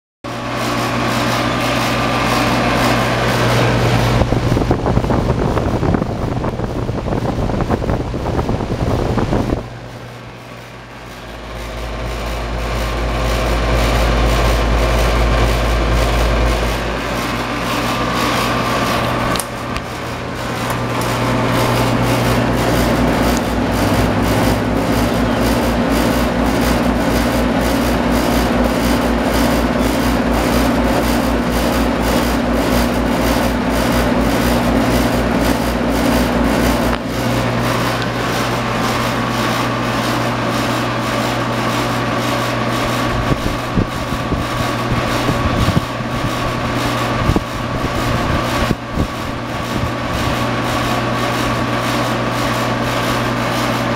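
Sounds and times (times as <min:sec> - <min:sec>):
fast low pulsing: 0:00.3 - 0:52.9
air conditioner condenser hum: 0:00.3 - 0:53.9
steady higher whine: 0:00.3 - 0:53.9.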